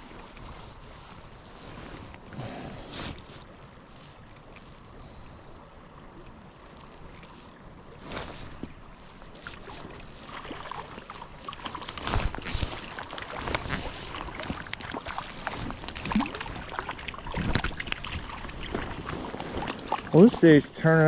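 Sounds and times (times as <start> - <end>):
creek water running: 0.0 - 21.0
water splashing and sloshing: 0.0 - 21.0.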